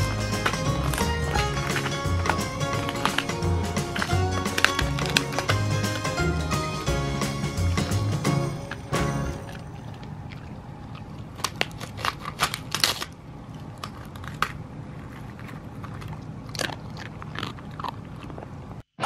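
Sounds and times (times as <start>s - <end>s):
dog chewing crunchy treat: 0.0s - 18.8s.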